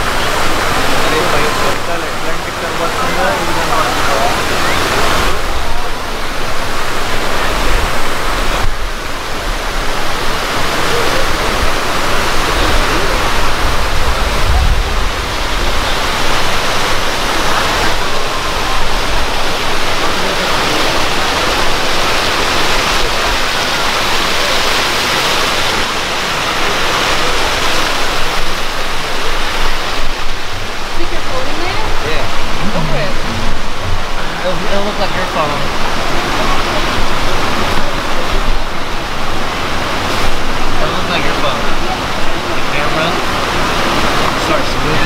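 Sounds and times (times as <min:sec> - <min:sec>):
fountain water splashing: 0:00.0 - 0:45.0.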